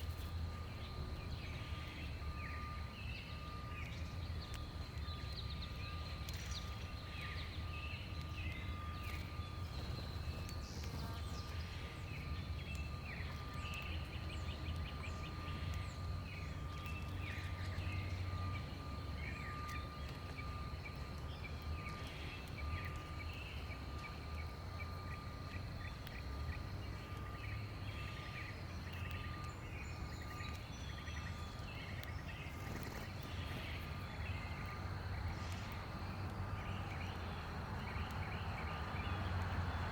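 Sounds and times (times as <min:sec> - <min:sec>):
faint high-pitched tone: 0:00.0 - 0:32.0
small birds chirping: 0:00.0 - 0:39.9.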